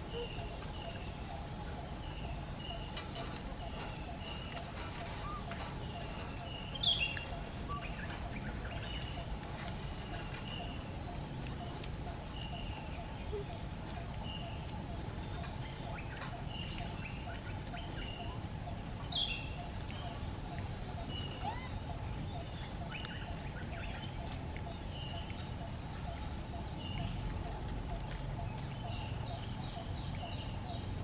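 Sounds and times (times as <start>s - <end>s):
bird chirping: 0.0s - 31.0s
steady low rumble: 0.0s - 31.0s.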